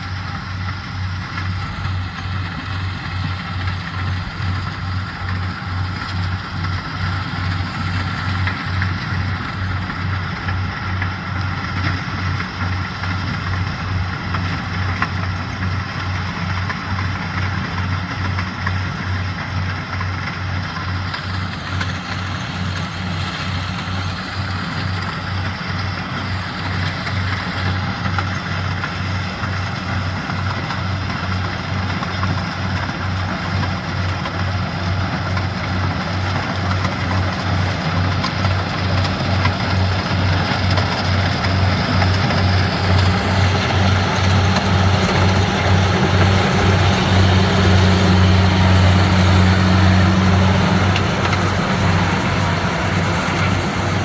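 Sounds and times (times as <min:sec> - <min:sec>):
harvester engine running: 0:00.0 - 0:54.0.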